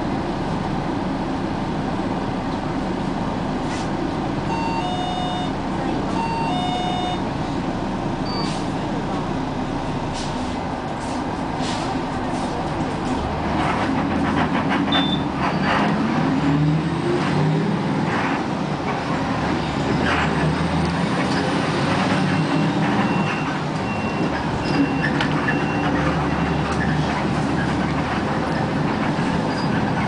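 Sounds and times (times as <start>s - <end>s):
large vehicle engine rumble: 0.0s - 30.0s.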